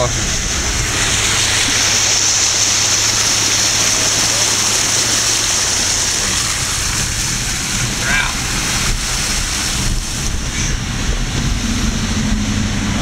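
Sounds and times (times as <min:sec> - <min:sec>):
low engine hum: 0:00.0 - 0:13.0
tyres rushing through water: 0:00.0 - 0:13.0.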